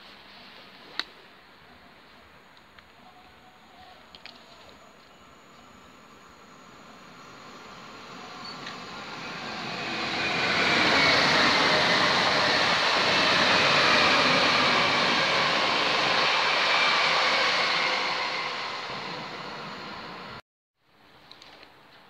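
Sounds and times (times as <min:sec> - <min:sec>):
train wheel and rail noise: 0:00.0 - 0:20.4.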